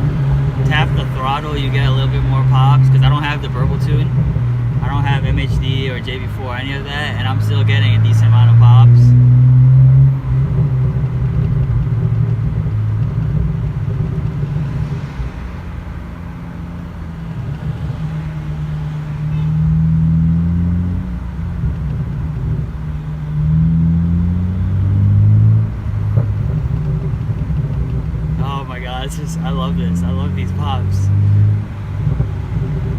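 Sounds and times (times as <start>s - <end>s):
car engine revving hard: 0.0s - 32.9s.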